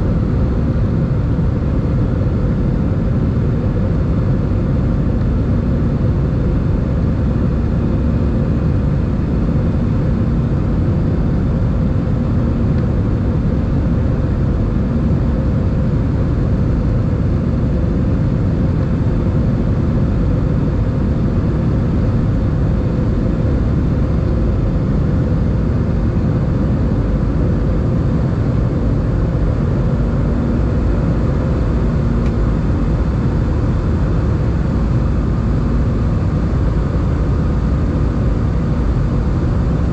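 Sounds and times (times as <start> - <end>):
airplane cabin engine drone: 0.0 - 39.9
faint steady hum: 0.0 - 39.9.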